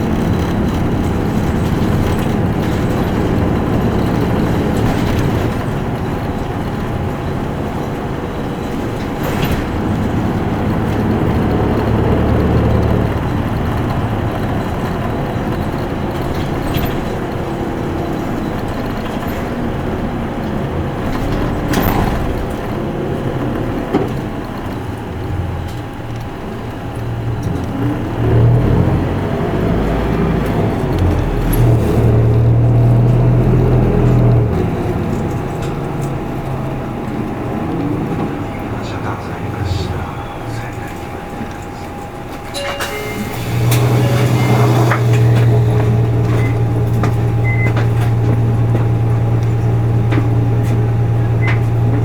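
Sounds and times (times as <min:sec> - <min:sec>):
bus diesel engine running: 0:00.0 - 0:52.0
knocks and rattles from bus body: 0:00.0 - 0:52.0
road noise: 0:00.0 - 0:52.0.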